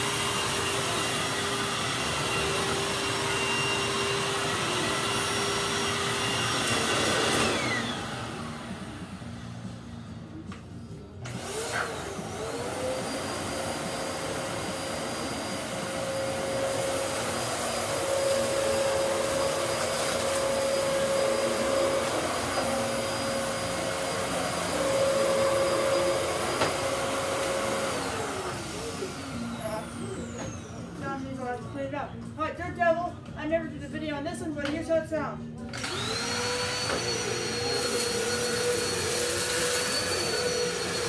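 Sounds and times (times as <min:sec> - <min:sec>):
vacuum cleaner motor whine: 0:00.0 - 0:10.5, 0:11.2 - 0:31.2, 0:35.7 - 0:41.0.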